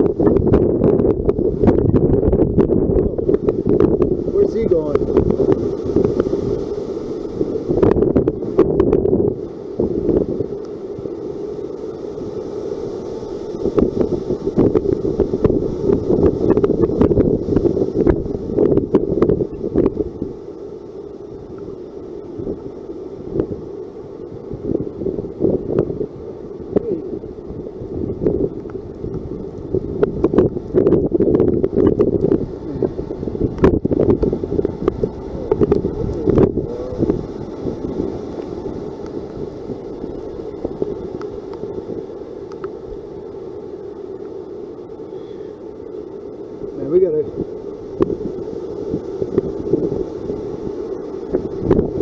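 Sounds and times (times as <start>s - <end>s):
hurricane wind buffeting microphone: 0.0s - 52.0s.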